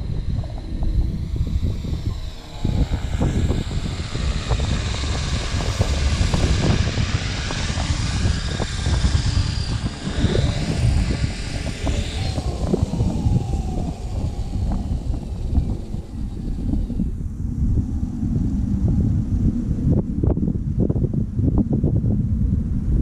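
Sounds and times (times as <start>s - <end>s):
model aircraft propeller whine: 0.0s - 21.8s
wind buffeting microphone: 0.0s - 23.0s.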